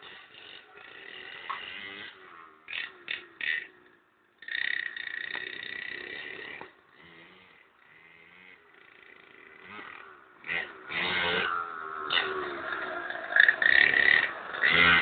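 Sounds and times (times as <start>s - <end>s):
small motorbike engine revving: 0.0s - 15.0s.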